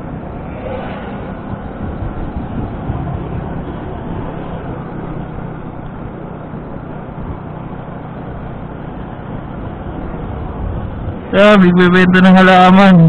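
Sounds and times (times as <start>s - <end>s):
wind and road rush: 0.0s - 13.0s.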